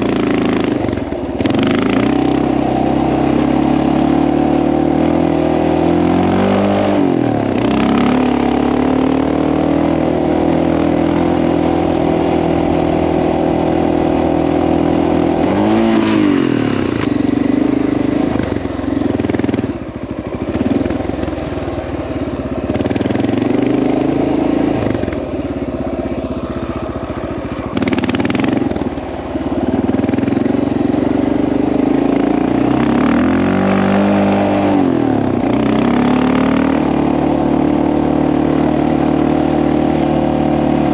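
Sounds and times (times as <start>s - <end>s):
motorcycle engine running under load: 0.0s - 40.9s.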